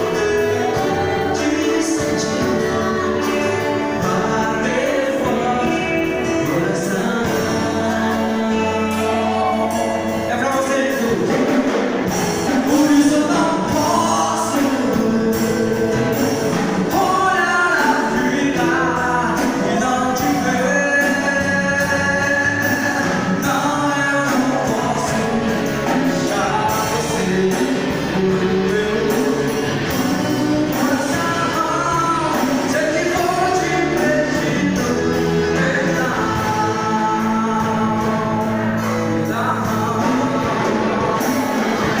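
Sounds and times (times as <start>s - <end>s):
gospel band playing live: 0.0s - 42.0s
person singing: 0.0s - 42.0s.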